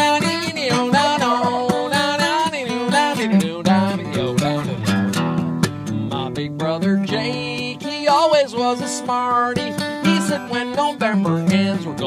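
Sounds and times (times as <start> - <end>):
man singing: 0.0 - 5.2, 6.0 - 12.0
strummed acoustic guitar: 0.0 - 12.0.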